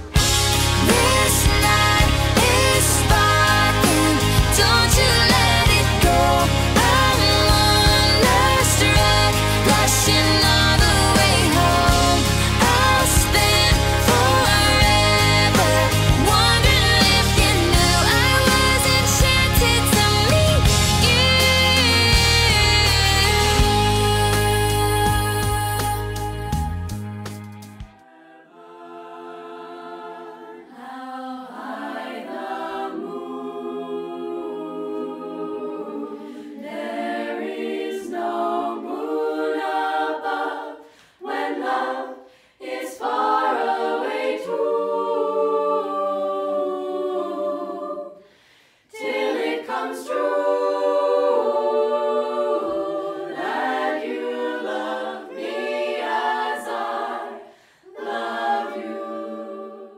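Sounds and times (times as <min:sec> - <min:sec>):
women singing in harmony: 0:00.0 - 0:26.8, 0:28.0 - 0:59.9.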